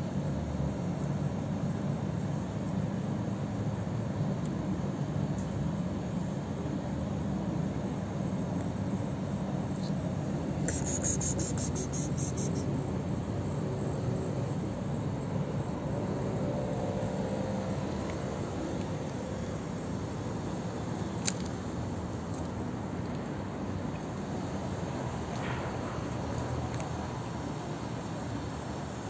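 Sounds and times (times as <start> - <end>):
distant traffic rumble: 3.1 - 29.0
insect chirping: 5.7 - 29.0.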